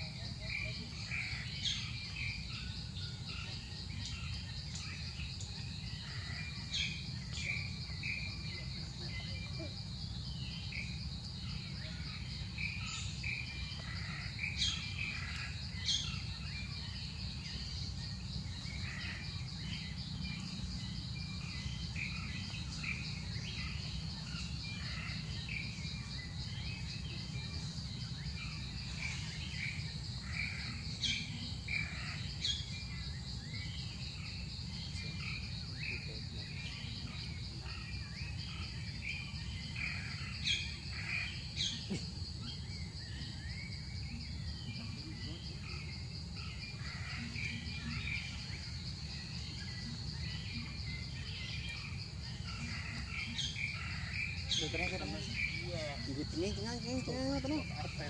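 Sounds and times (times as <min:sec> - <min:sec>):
pulsing insect trill: 0:00.0 - 0:58.0.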